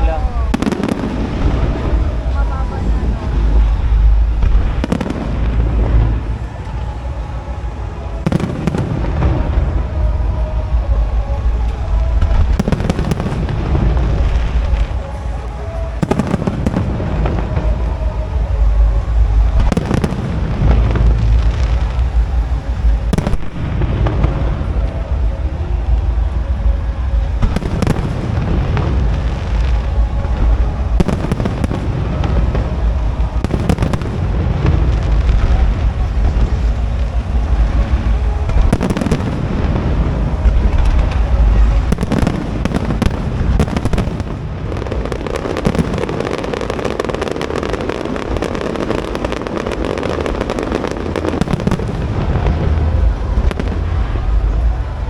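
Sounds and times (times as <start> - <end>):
fireworks sharp cracks: 0.0 - 26.6, 27.2 - 55.0
fireworks booming: 0.0 - 55.0.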